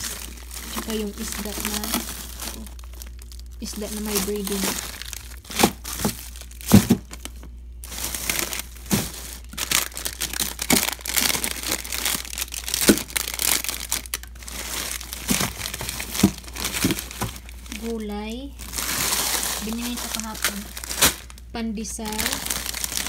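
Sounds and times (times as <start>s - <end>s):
plastic packages rustling: 0.0s - 23.0s.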